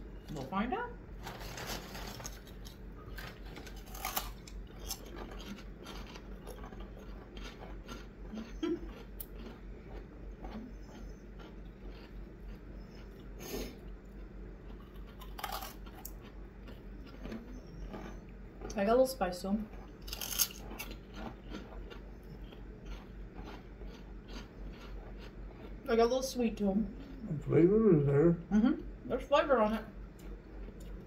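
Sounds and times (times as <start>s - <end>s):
people chewing crunchy food: 1.1s - 27.7s, 30.0s - 31.0s.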